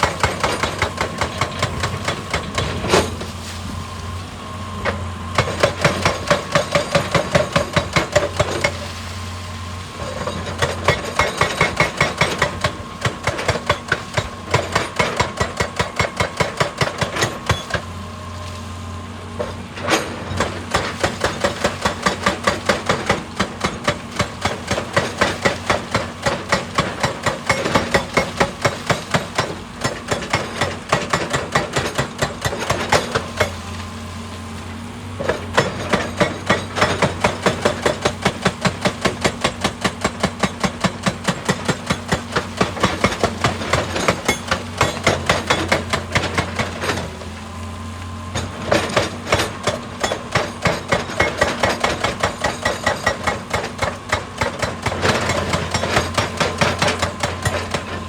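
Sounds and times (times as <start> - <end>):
hydraulic breaker hammering rock: 0.0 - 3.7, 4.7 - 9.1, 10.0 - 18.2, 19.3 - 34.5, 35.1 - 58.0
diesel engine drone: 0.0 - 58.0.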